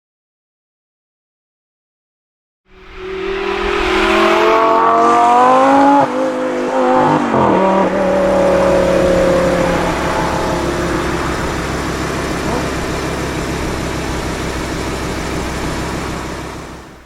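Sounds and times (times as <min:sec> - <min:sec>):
sports car engine revving: 0:02.7 - 0:17.0.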